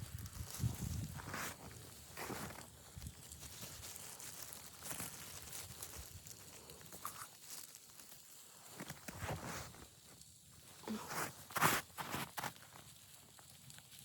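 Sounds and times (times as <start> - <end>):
soft crunches and rustles: 0.0 - 14.0.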